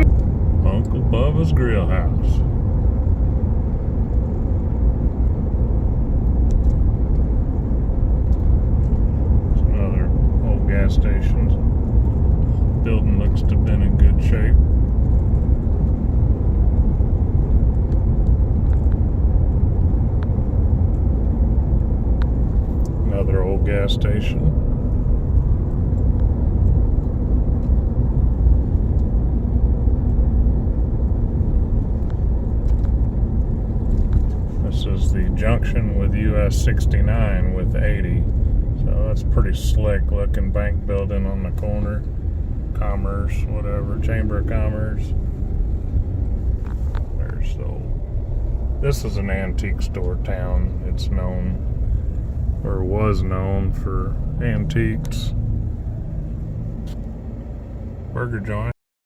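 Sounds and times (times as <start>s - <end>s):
vehicle engine and road rumble: 0.0s - 58.8s.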